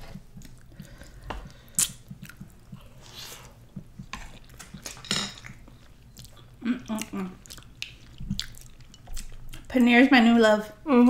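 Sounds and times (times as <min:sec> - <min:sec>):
chewing and wet mouth sounds: 0:00.1 - 0:10.3.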